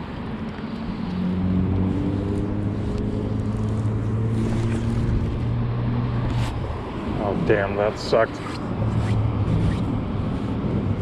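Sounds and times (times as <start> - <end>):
motor engine droning: 0.7 - 11.0.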